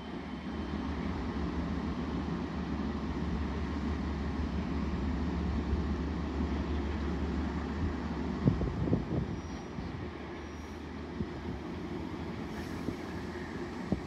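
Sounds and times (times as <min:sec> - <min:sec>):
train engine rumble: 0:00.0 - 0:14.0.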